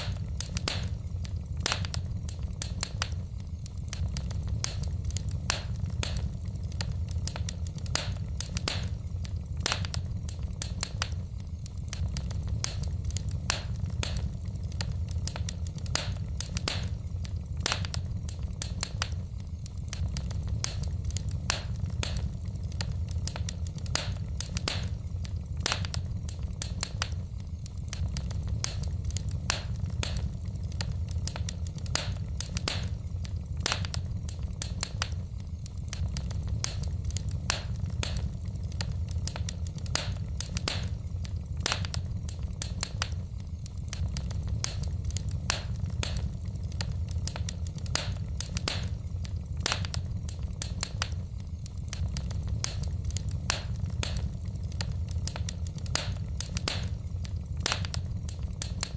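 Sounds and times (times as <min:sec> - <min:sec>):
logs crackling and popping: 0:00.0 - 0:58.9
low rumble of flames: 0:00.0 - 0:58.9.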